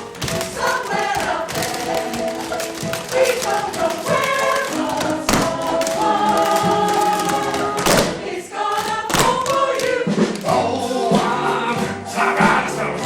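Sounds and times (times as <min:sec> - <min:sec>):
chorus singing with band: 0:00.4 - 0:13.0.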